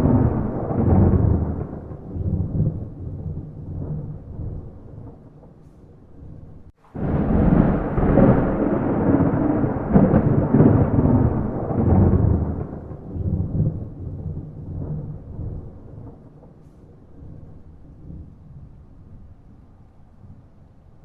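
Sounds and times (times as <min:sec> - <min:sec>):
rolling thunder: 0:00.0 - 0:20.5.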